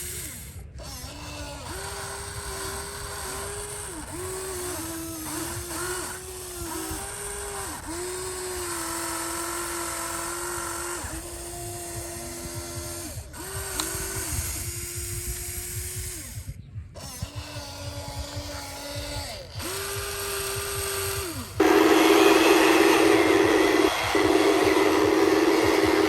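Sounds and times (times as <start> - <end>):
harsh motor whine: 0.0 - 26.0
small electric motors whining: 0.0 - 26.0.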